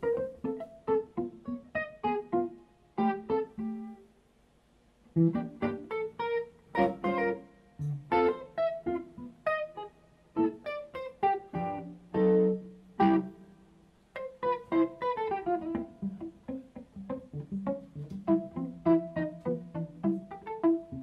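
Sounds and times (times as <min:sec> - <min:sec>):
clean electric guitar solo: 0:00.0 - 0:04.1, 0:05.1 - 0:21.0.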